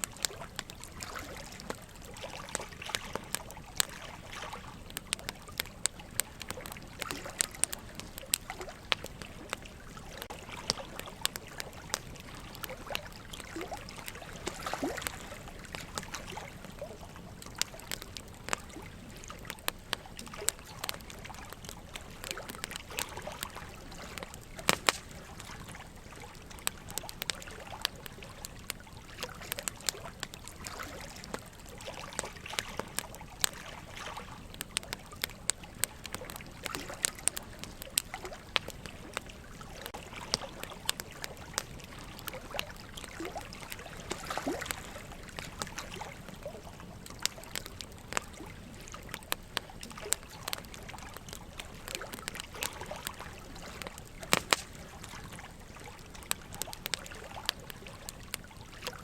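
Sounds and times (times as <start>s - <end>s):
burning logs crackling: 0.0s - 59.0s
water trickling: 0.0s - 59.0s.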